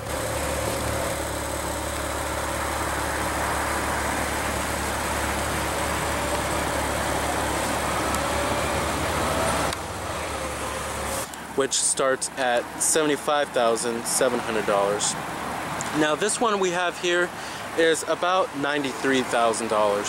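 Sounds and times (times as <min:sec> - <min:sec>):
car engine idling: 0:00.0 - 0:16.4.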